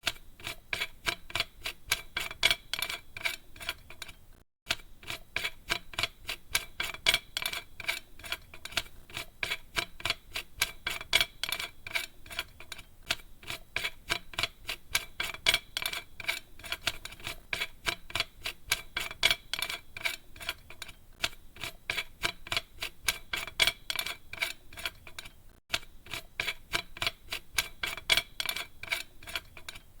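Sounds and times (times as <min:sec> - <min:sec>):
metal cap screwing onto threads: 0:00.0 - 0:29.9.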